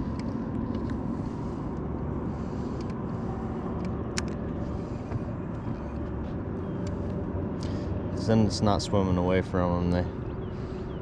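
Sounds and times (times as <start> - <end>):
boat motor hum: 0.0 - 11.0.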